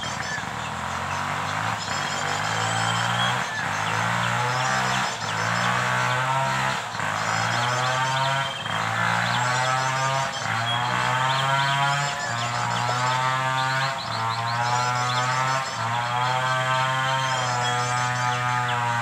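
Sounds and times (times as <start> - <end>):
small bird chirps: 0.0 - 19.0.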